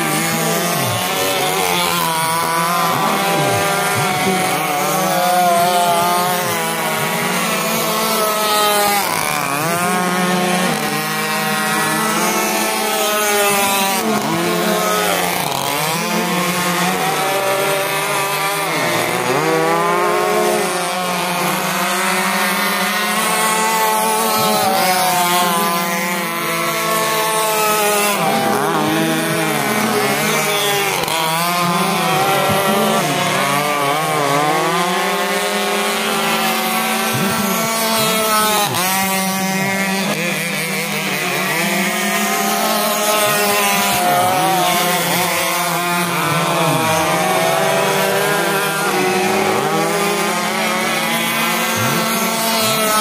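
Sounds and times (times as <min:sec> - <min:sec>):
racing boat motors whining: 0:00.0 - 0:53.0.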